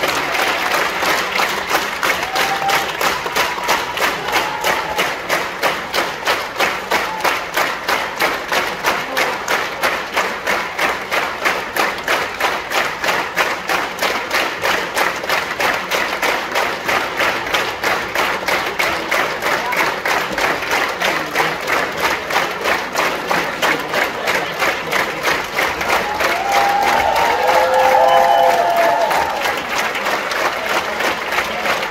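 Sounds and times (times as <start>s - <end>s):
audience clapping in unison: 0.0s - 31.9s.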